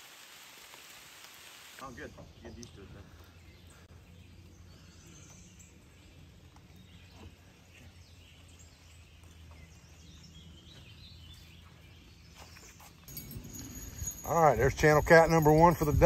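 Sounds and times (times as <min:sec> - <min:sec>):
bird chirps: 0:01.9 - 0:16.0.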